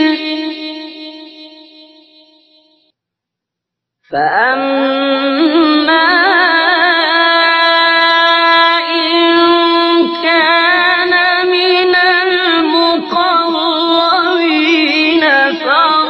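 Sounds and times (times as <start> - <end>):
person chanting recitation: 0.0 - 1.8, 4.1 - 16.0.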